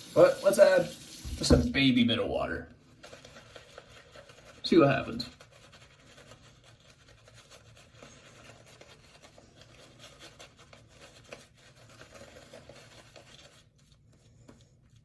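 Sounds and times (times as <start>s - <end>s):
shaving brush rubbing lather: 0.0s - 1.6s, 3.0s - 13.8s.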